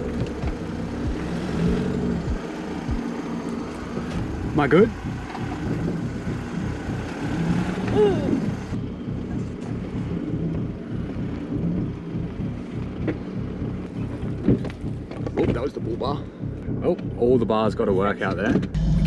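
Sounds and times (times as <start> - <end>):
engine running at low revs: 0.0 - 19.0.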